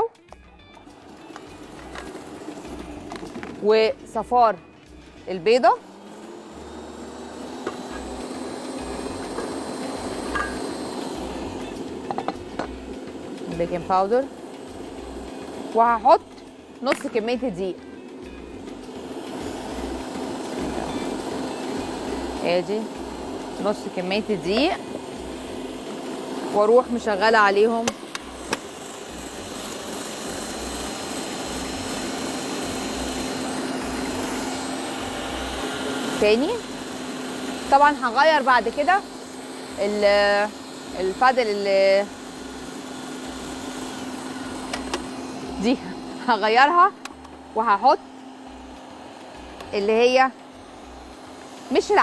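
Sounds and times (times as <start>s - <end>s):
stand mixer whisking: 0.8s - 3.4s, 5.8s - 15.9s, 18.8s - 46.8s, 47.4s - 52.0s.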